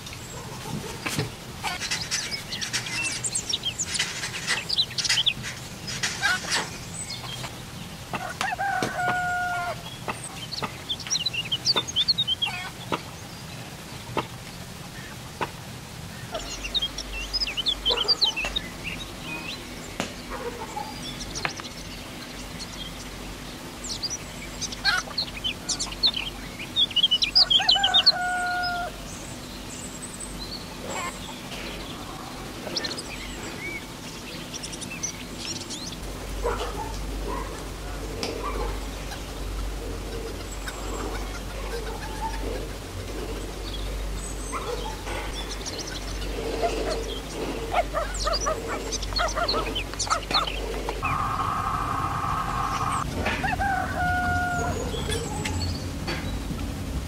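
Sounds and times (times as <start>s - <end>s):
chickens clucking: 0.0s - 13.2s, 14.0s - 15.6s, 16.3s - 21.9s, 24.6s - 29.4s, 30.4s - 56.7s
small birds chirping: 0.0s - 56.8s
low steady hum: 0.0s - 57.0s.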